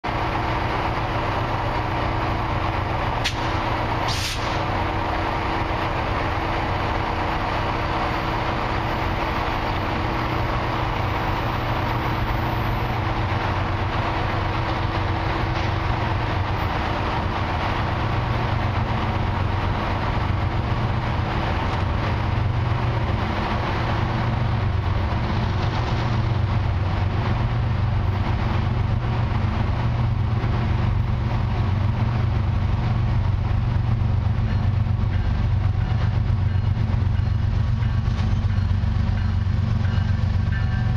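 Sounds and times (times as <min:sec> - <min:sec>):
diesel locomotive engine drone: 0:00.0 - 0:40.9.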